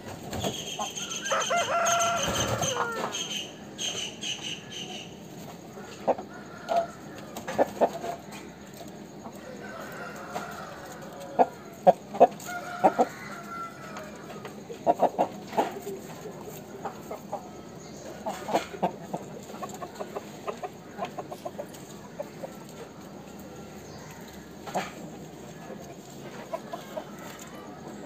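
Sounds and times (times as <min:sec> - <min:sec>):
chickens clucking: 0:00.0 - 0:28.0
chicken drawn-out call: 0:00.4 - 0:08.7, 0:09.4 - 0:28.0.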